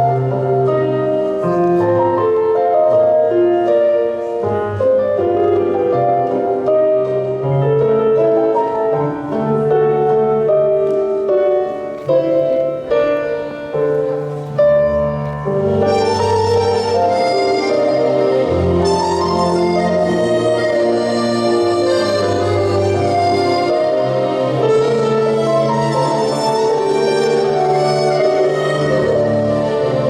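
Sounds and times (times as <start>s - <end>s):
instrumental keyboard dance music: 5.4s - 29.9s.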